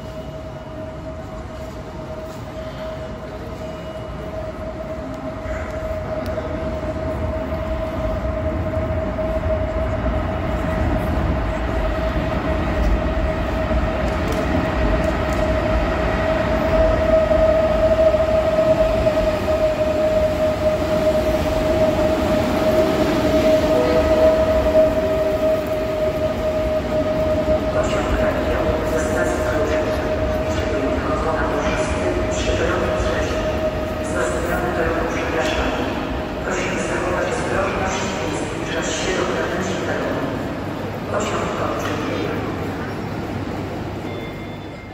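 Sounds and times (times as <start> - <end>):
electric train rumble: 0.0 - 44.9.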